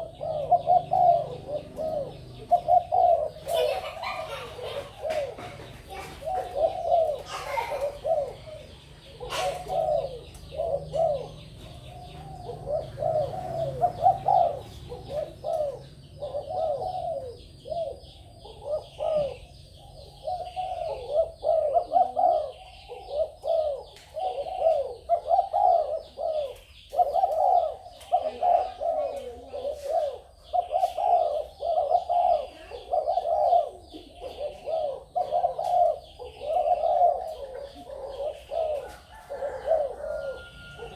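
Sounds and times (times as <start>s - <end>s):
doves cooing: 0.0s - 40.9s.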